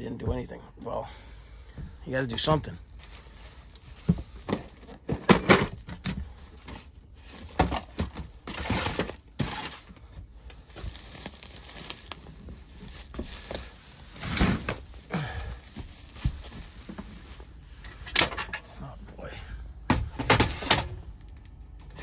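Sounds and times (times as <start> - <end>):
boxes knocking and rustling: 1.7 - 18.8, 19.8 - 22.0
items clattering: 2.4 - 18.9, 19.8 - 22.0.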